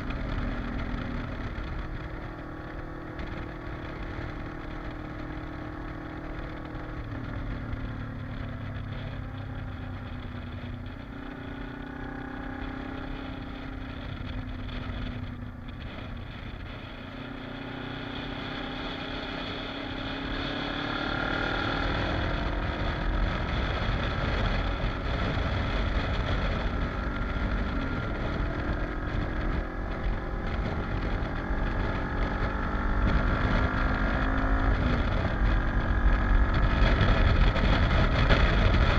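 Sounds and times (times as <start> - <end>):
motorcycle engine revving: 0.0 - 38.9
wind buffeting microphone: 0.0 - 38.9.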